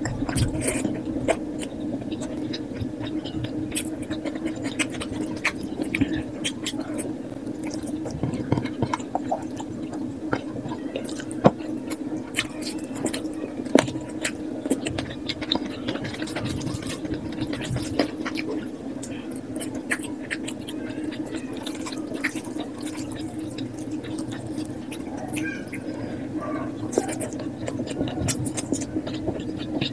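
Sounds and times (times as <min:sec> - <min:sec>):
steady low hum: 0:00.0 - 0:29.9
wet chewing and smacking: 0:00.0 - 0:29.9.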